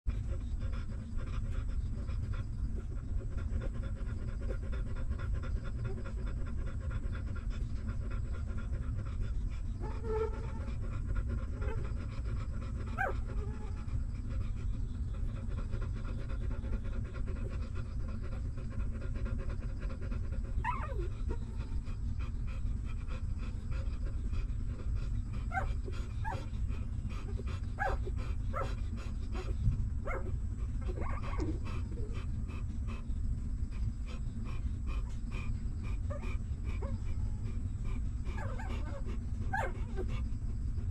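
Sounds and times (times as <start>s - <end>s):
dog panting: 0.1s - 40.9s.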